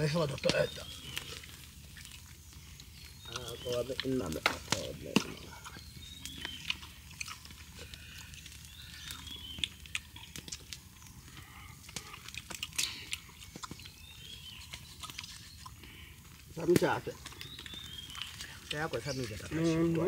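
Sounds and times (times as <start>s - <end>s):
campfire crackling: 0.0s - 20.0s
men chewing and tearing meat: 0.0s - 20.0s.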